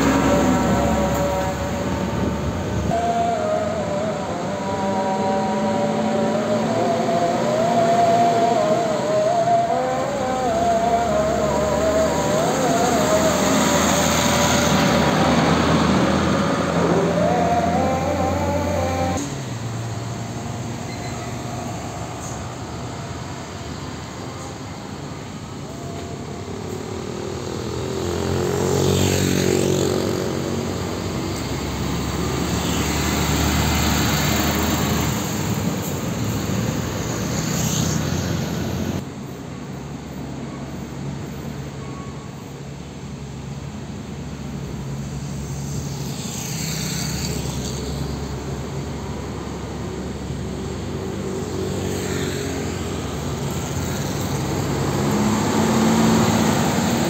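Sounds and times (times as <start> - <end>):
motorcycles and cars passing: 0.0 - 39.1, 43.5 - 57.0
diesel trucks running slowly: 0.0 - 57.0.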